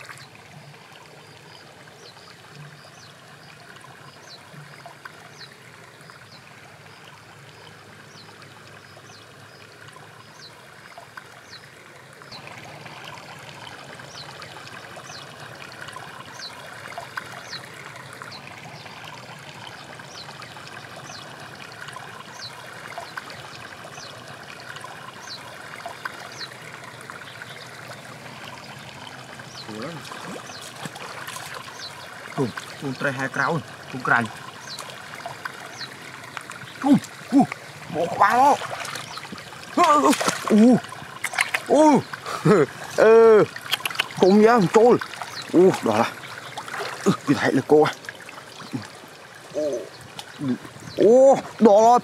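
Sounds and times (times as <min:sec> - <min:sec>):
stream water trickling: 0:00.0 - 0:52.0.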